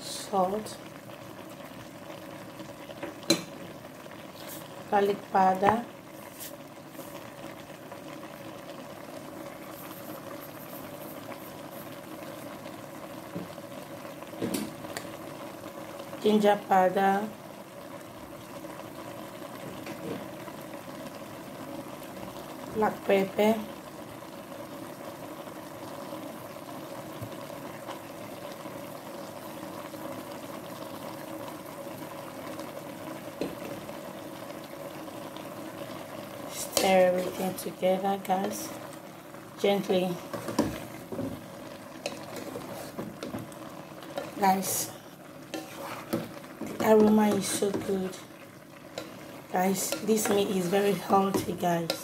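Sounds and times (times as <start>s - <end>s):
pan simmering with bubbling crackle: 0.0s - 52.0s.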